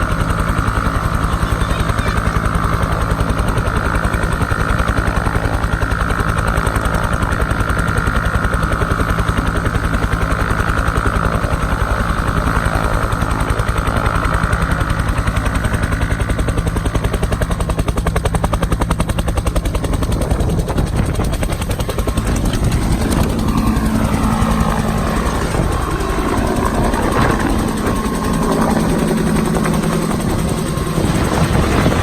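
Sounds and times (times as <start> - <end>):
helicopter rotor thumping: 0.0 - 32.0
high turbine whine: 0.0 - 32.0.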